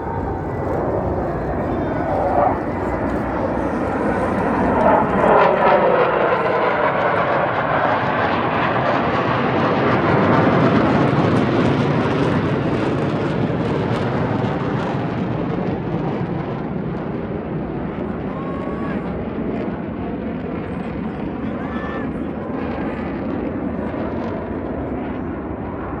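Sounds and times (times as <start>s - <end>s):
jet engine flying past: 0.0s - 26.0s.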